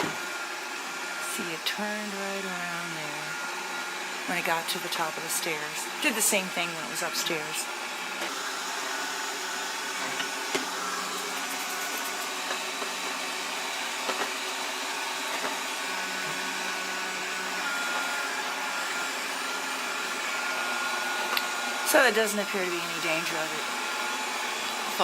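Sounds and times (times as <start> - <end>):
robot vacuum whirring: 0.0 - 25.0.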